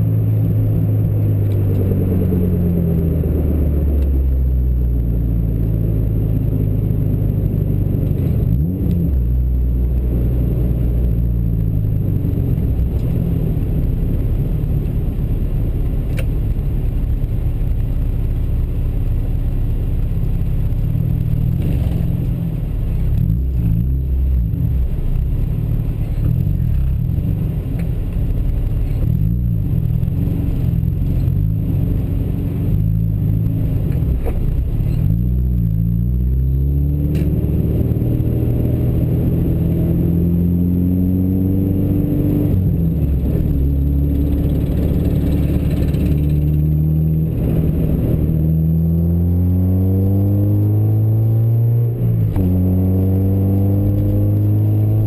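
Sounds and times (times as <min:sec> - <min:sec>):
road and wind noise: 0:00.0 - 0:55.0
vehicle engine running: 0:00.0 - 0:55.0.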